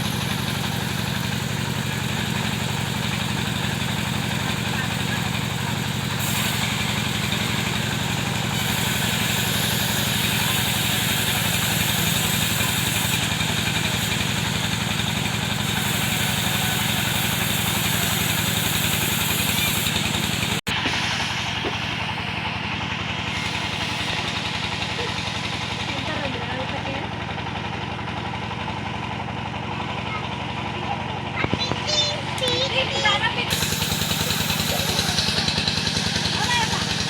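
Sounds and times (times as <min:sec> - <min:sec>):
wood saw engine running: 0:00.0 - 0:37.0.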